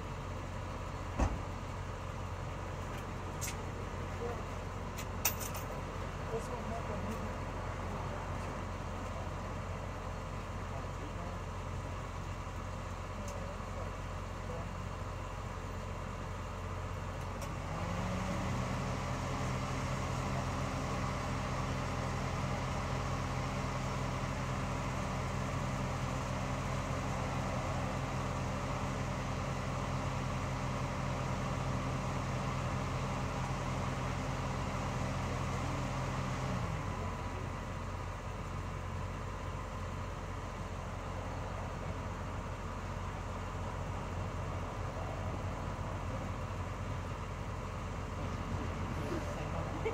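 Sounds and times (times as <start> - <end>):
constant low hum: 0.0 - 49.9.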